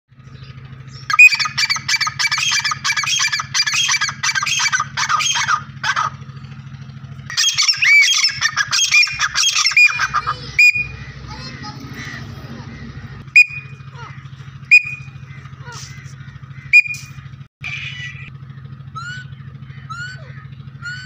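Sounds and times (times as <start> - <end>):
steady low hum: 0.1 - 21.0
partridge calling: 0.4 - 6.2, 7.3 - 21.0.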